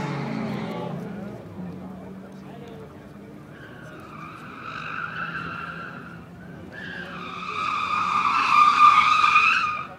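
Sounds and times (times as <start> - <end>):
tires squealing: 0.0 - 1.4, 3.1 - 9.9
car engine drone: 0.0 - 9.9.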